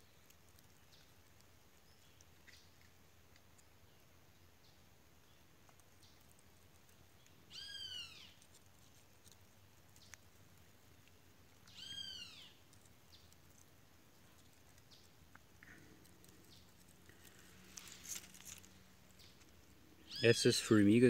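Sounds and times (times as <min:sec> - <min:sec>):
faint outdoor background: 0:00.0 - 0:21.0.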